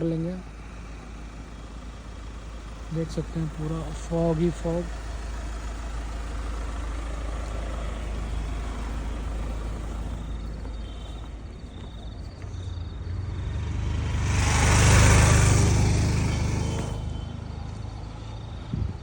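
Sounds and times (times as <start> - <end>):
rushing vehicle noise: 0.0 - 19.0
suv road running noise: 0.0 - 19.0.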